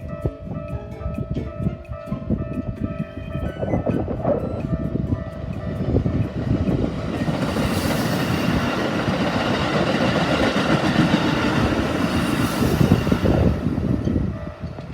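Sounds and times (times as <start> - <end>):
electric train rumbling over rails: 0.0 - 14.9.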